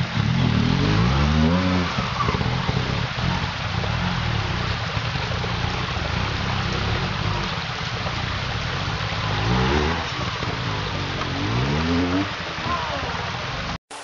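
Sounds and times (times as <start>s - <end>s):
motorcycle engine running: 0.0s - 13.7s
stream rushing: 0.0s - 14.0s.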